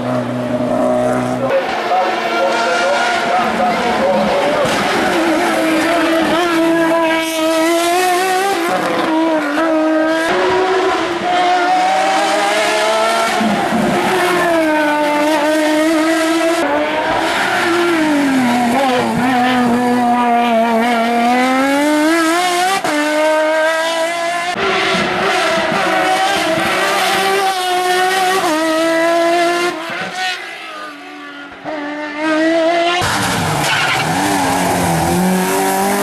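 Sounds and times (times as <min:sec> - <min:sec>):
race car engine revving: 0:00.0 - 0:36.0.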